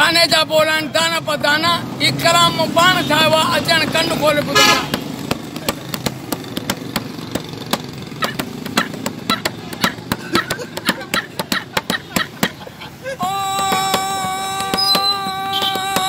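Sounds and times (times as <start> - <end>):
street traffic hum: 0.0 - 16.0
sharp rhythmic taps: 2.4 - 16.0.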